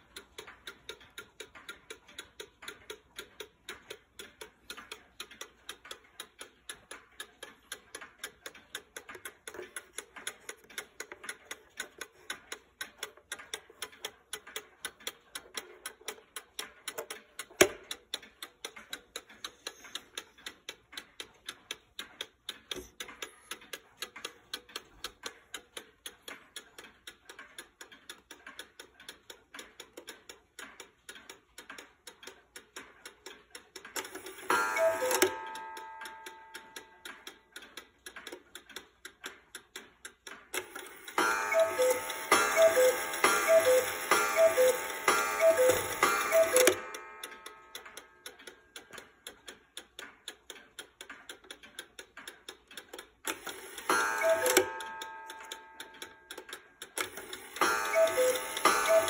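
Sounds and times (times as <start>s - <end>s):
clock ticking rapidly: 0.0s - 59.0s.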